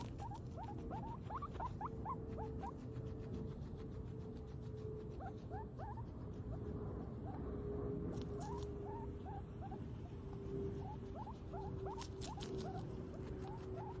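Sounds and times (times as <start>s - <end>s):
guinea pig squeaking: 0.0s - 14.0s
steady low hum: 0.0s - 14.0s.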